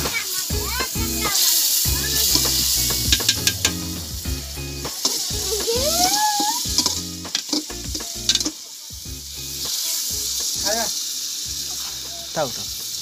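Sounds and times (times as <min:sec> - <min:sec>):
chicken skin sizzling in a pot: 0:00.0 - 0:13.0.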